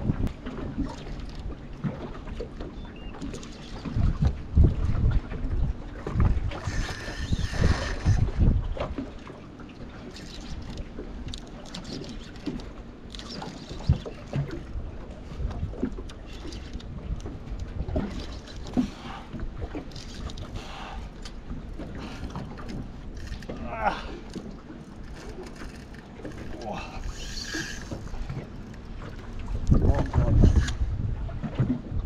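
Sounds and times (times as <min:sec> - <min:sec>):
small boat rumbling: 0:00.0 - 0:32.0.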